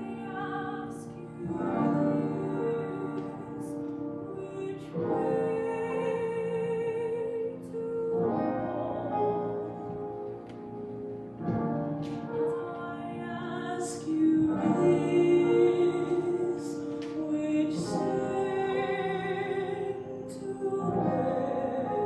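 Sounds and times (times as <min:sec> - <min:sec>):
woman singing: 0:00.0 - 0:10.3, 0:12.3 - 0:22.0
musical accompaniment: 0:00.0 - 0:22.0.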